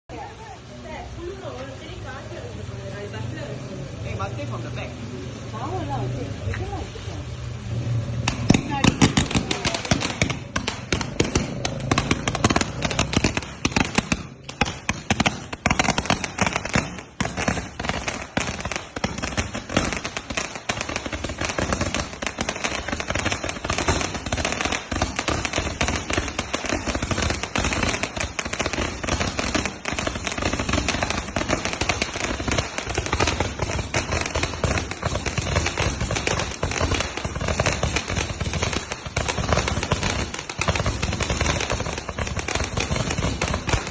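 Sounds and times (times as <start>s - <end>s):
firecracker string bangs and crackles: 7.7s - 43.9s.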